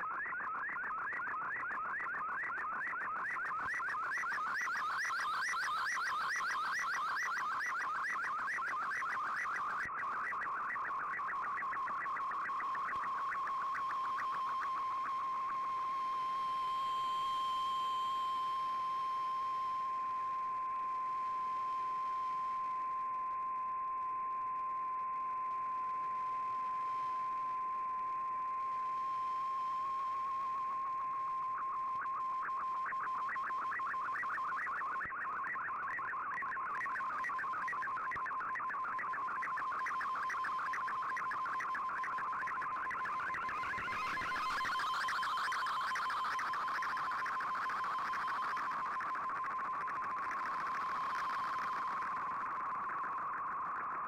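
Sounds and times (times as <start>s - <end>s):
warbling radio data tone: 0.0s - 23.4s, 24.7s - 54.0s.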